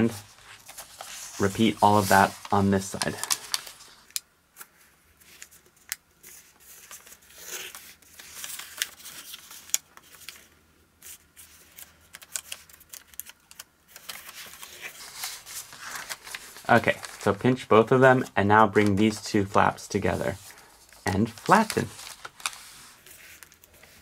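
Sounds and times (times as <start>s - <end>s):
paper rustling and crinkling: 0.0s - 24.0s.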